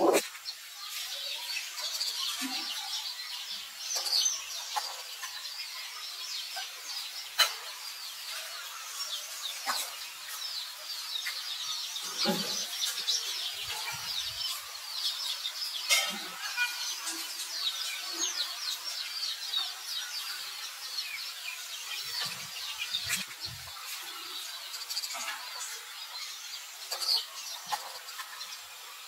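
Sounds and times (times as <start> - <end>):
chorus of small birds chirping: 0.0 - 29.0.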